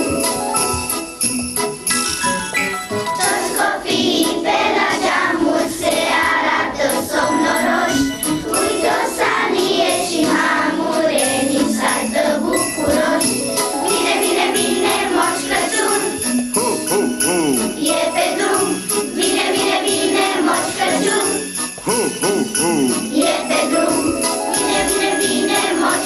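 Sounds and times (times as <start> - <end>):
sleigh bells ringing: 0.0 - 3.7, 7.2 - 10.1, 11.2 - 26.0
music accompaniment: 0.0 - 26.0
children's choir singing a carol: 3.2 - 26.0.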